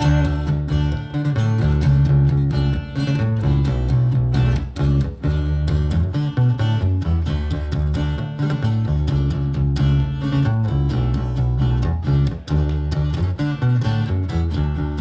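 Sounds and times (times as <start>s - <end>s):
baritone guitar playing bass notes: 0.0s - 15.0s.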